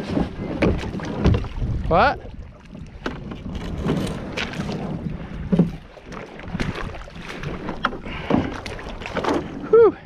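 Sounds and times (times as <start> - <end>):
paddle strokes splashing: 0.0 - 10.0
wind rumble on microphone: 0.0 - 10.0.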